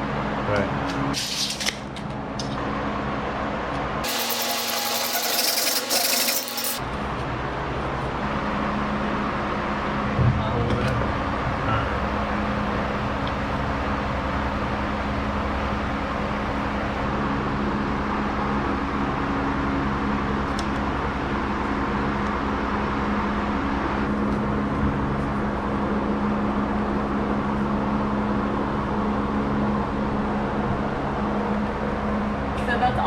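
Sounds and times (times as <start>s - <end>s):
steady machine drone: 2.4s - 33.0s.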